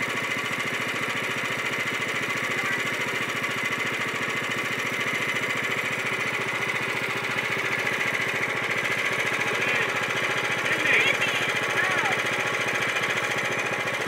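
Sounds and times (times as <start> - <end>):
small gas engine running: 0.0 - 14.0.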